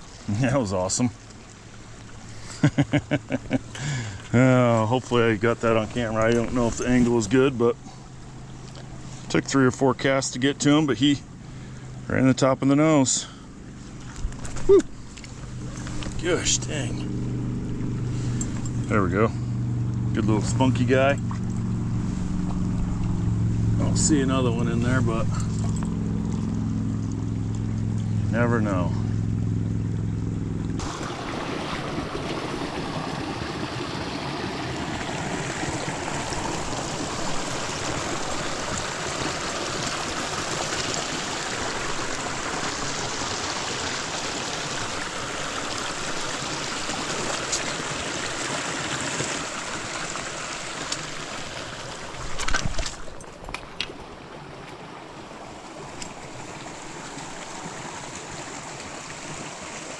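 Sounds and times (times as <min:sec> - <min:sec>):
creek water rushing: 0:00.0 - 0:12.2, 0:12.8 - 0:59.9.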